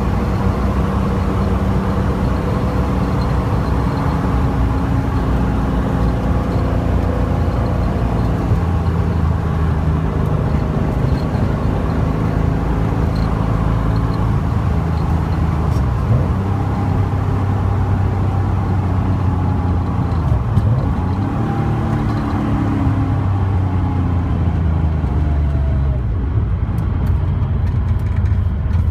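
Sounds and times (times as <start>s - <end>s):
car engine running: 0.0s - 28.9s
road noise: 0.0s - 28.9s.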